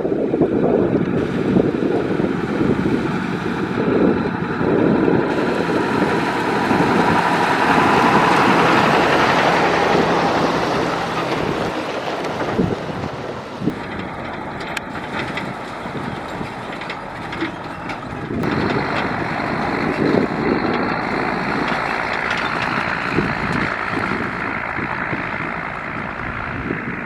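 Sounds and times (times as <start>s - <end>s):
heavy construction vehicle engine: 0.0s - 27.0s.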